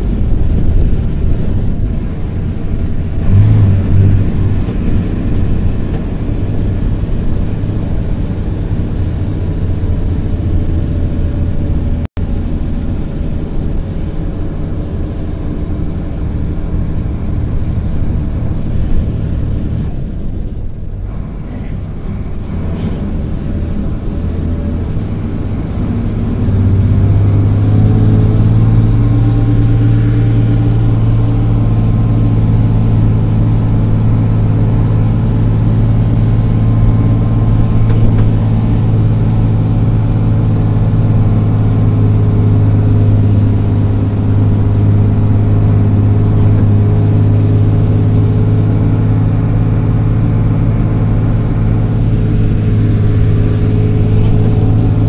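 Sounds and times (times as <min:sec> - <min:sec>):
bus diesel engine from inside: 0:00.0 - 0:55.0.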